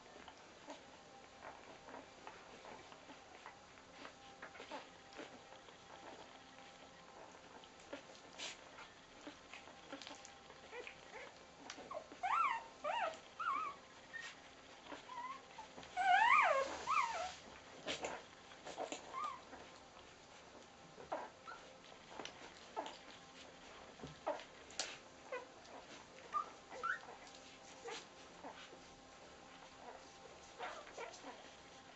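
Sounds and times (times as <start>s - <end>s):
puppies squeaking and whimpering: 1.4s - 20.1s, 21.0s - 28.8s, 29.6s - 31.5s.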